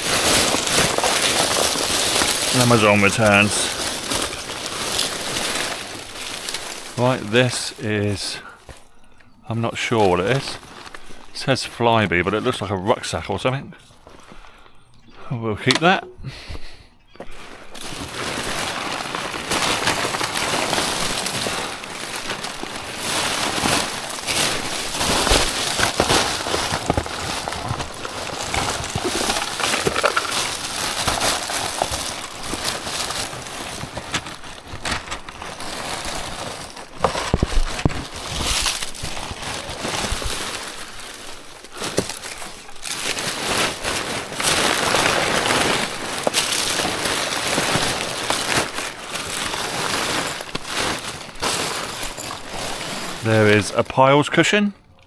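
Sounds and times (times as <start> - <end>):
bags rustling and crumpling: 0.0 - 14.6, 17.2 - 54.5.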